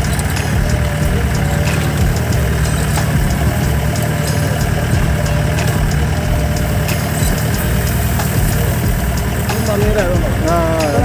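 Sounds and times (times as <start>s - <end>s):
jeep engine idling: 0.0s - 11.0s.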